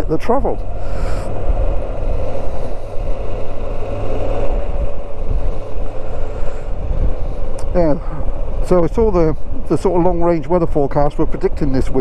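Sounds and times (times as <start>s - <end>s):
motorcycle engine running: 0.0s - 12.0s
wind and road noise rumble: 0.0s - 12.0s.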